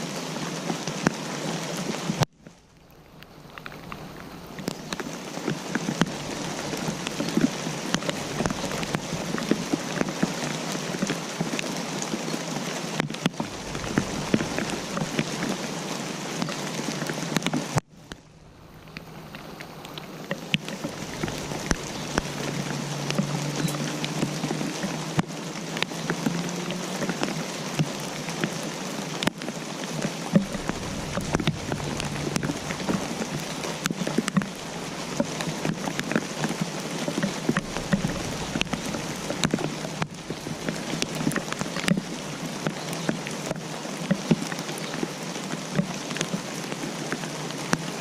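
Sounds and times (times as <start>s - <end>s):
rain falling: 0.0s - 48.0s
raindrops striking close by: 0.0s - 48.0s.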